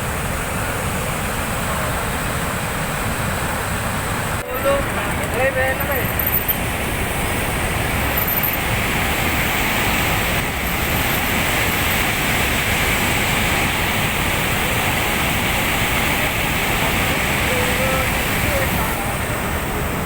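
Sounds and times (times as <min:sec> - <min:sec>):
heavy rain water rushing: 0:00.0 - 0:20.0.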